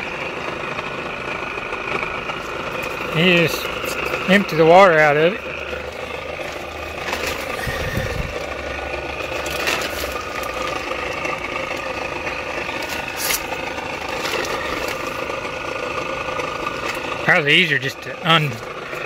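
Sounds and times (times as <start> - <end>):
compressor humming and whining: 0.0 - 19.0.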